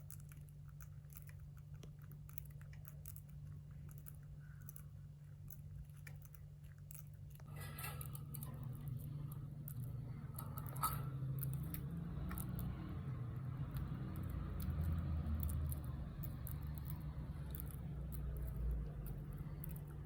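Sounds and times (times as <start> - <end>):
birds pecking and crunching food: 0.0 - 20.0.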